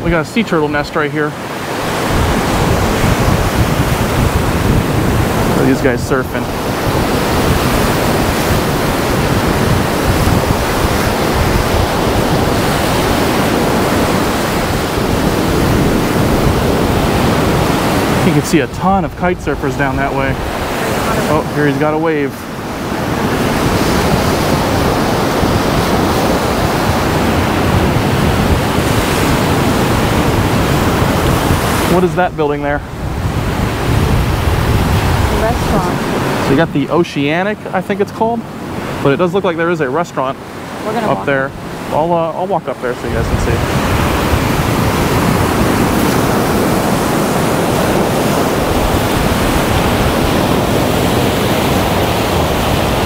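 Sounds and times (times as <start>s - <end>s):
ocean surf breaking on beach: 0.0s - 53.0s
wind rumbling on microphone: 0.0s - 53.0s.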